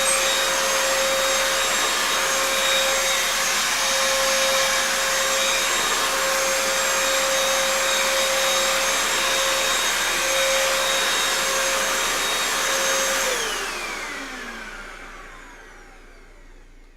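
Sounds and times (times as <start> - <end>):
vacuum cleaner running: 0.0 - 16.9
vacuum motor spinning down: 0.0 - 16.9.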